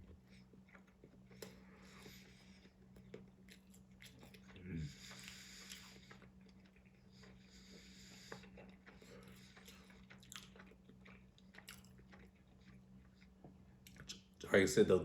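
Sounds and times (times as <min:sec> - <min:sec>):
chewing food: 0:00.0 - 0:14.4.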